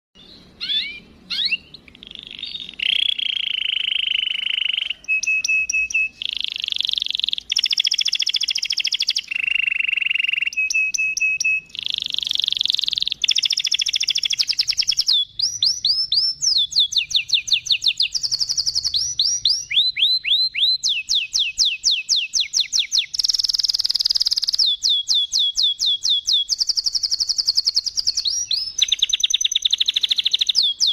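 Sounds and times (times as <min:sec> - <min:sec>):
canary singing trills: 0:00.2 - 0:30.9.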